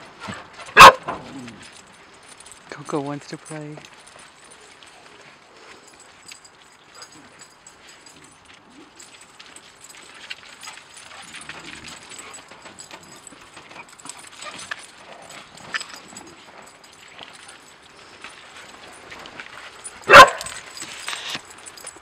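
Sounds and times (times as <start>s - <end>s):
paws scrabbling: 0.1s - 22.0s.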